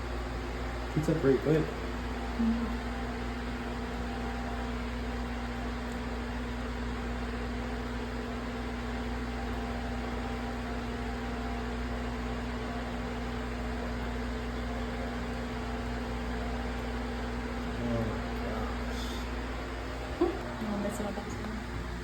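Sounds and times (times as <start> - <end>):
electric fan whirring: 0.0 - 22.0.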